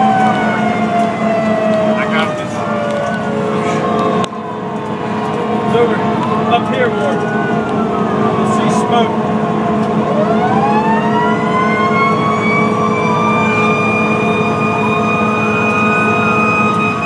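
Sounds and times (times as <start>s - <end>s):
engine drone: 0.0s - 17.0s
fire engine sirens wailing: 0.0s - 17.0s.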